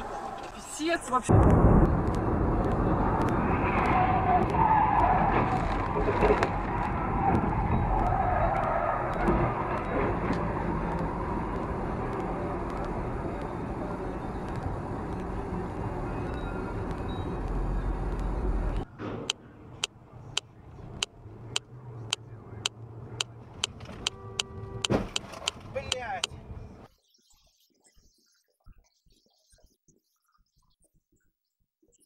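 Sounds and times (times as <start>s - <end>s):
car road and engine noise: 0.0s - 26.9s.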